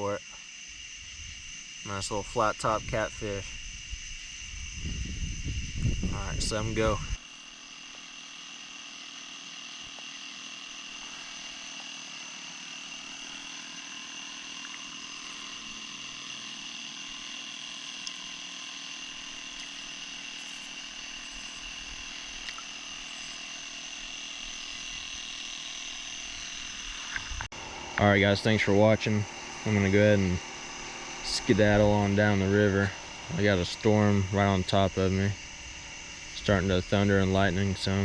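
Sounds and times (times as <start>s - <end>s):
insects buzzing drone: 0.0s - 38.0s.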